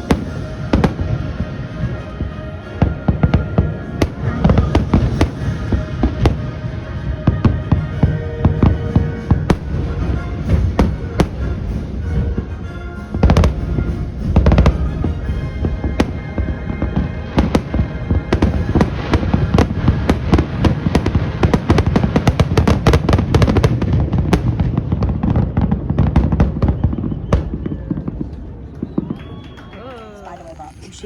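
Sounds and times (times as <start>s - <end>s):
music: 0.0s - 30.1s
fireworks bangs and crackles: 0.0s - 31.0s.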